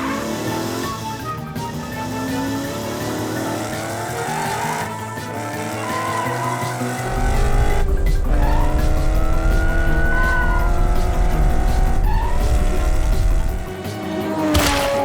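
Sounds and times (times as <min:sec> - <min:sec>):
cartoon engine revving: 0:00.0 - 0:13.7
tyre squeals: 0:00.0 - 0:13.7
background music: 0:00.0 - 0:15.0.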